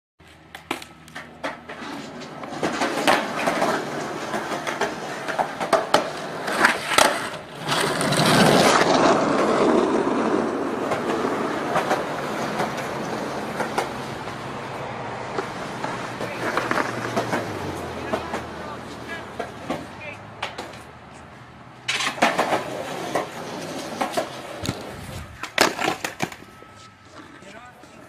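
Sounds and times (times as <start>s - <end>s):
skateboard clacks: 0.2s - 28.0s
skateboard wheels rolling on asphalt: 0.2s - 28.0s.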